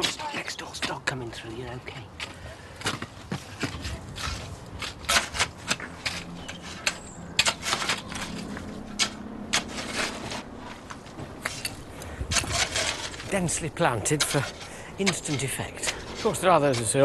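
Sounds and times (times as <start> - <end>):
tool scraping in soil: 2.8 - 17.0.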